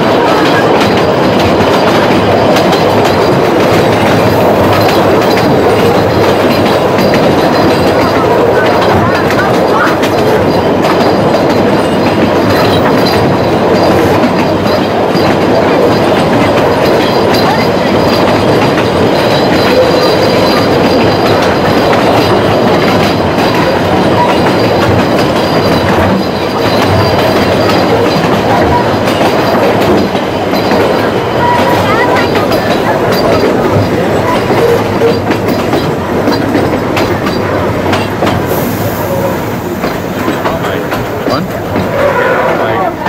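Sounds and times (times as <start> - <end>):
track clicking: 0.0 - 43.0
train wheels rumbling on rails: 0.0 - 43.0.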